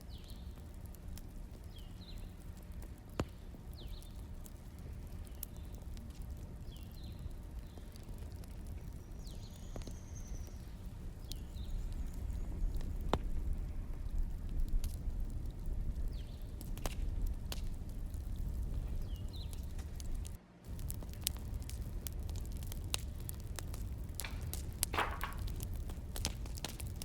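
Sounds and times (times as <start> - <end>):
fire crackling and popping: 0.0 - 27.0
fire low rumble: 0.0 - 27.0.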